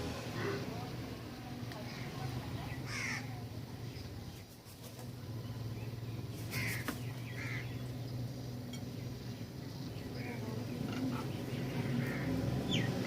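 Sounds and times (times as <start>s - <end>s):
steady low hum: 0.0s - 13.0s
harsh bird calls: 1.8s - 4.6s, 5.2s - 13.0s.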